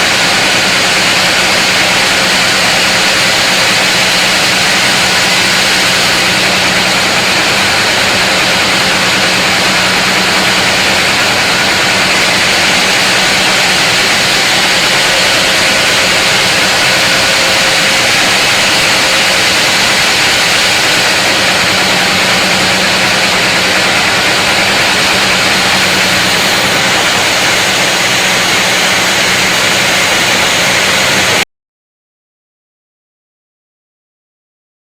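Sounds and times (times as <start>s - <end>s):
sawmill saw cutting log: 0.0s - 31.4s.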